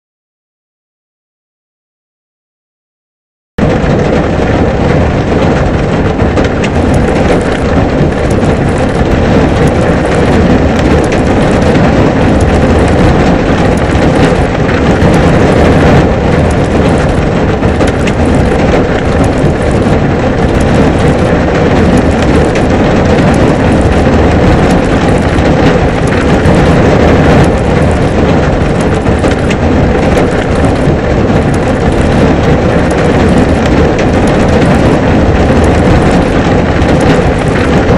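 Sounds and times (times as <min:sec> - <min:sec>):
heavy rain falling: 0:03.6 - 0:37.9.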